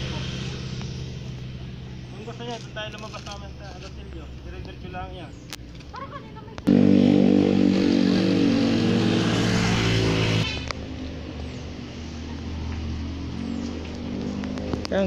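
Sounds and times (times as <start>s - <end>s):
vehicle engine droning: 0.0s - 5.6s, 6.6s - 15.0s.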